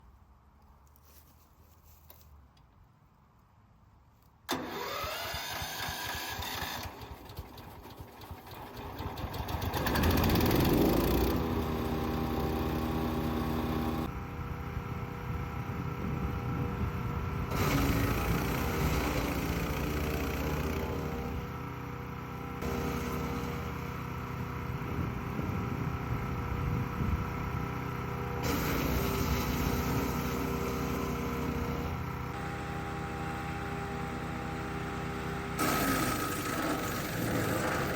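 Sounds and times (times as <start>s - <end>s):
wood chipper engine running: 4.5s - 37.9s.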